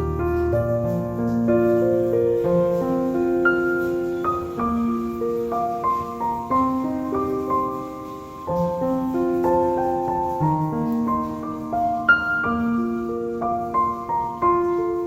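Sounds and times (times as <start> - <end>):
calm piano melody: 0.0 - 15.0.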